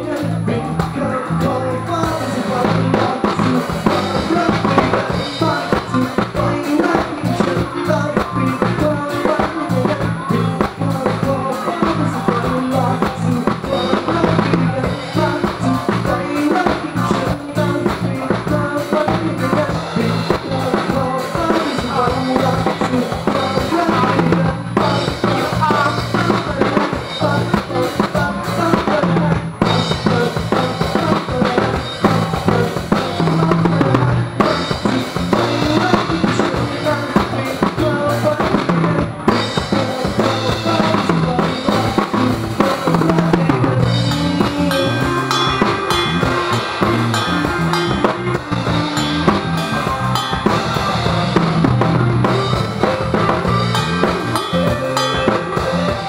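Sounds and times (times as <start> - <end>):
drum kit playing: 0.0 - 56.0.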